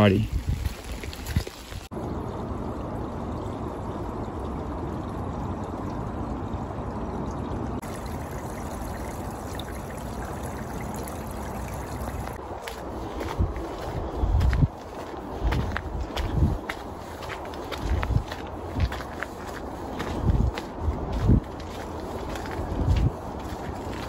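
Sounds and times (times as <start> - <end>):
stream trickling over pebbles: 0.0 - 24.0.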